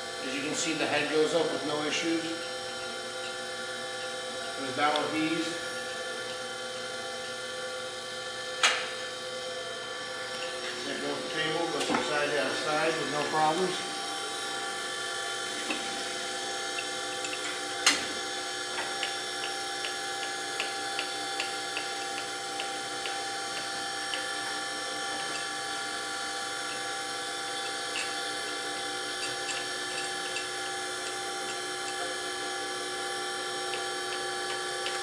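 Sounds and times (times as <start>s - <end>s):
steady motor hum: 0.0s - 35.0s.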